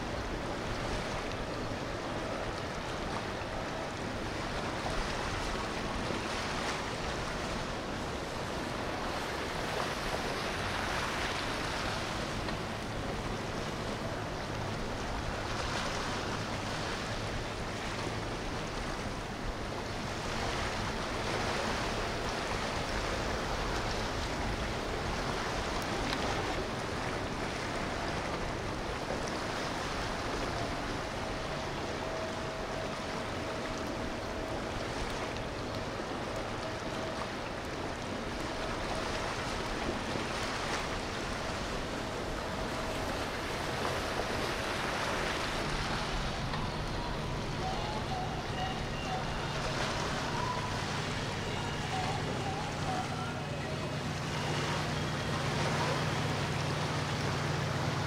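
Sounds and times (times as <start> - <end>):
boat engines: 0.0 - 58.0
rushing river water: 0.0 - 58.0.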